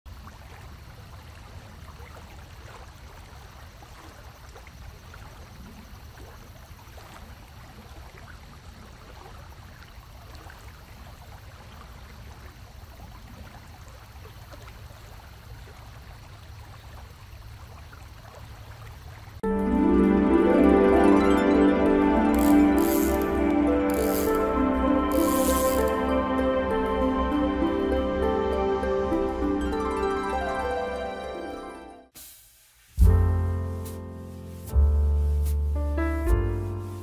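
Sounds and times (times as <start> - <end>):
stream water babbling: 0.1 - 31.5.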